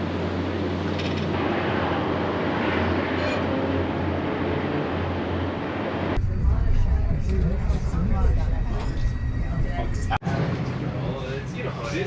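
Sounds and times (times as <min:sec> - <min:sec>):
passenger train running on track: 0:00.0 - 0:12.0.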